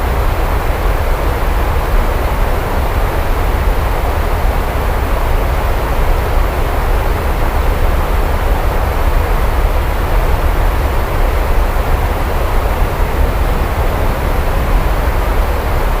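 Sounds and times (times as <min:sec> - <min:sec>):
deep continuous rumble: 0:00.0 - 0:16.0
heavy rain falling: 0:01.2 - 0:16.0.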